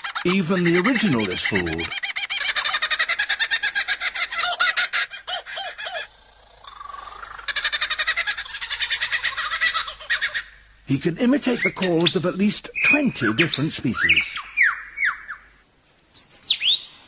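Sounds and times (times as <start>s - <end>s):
lyrebird singing mimicked calls: 0.1s - 17.0s.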